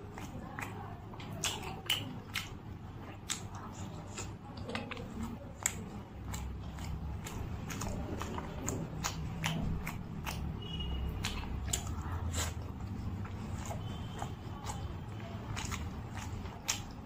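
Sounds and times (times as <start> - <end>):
close chewing with mouth clicks: 0.0 - 17.0.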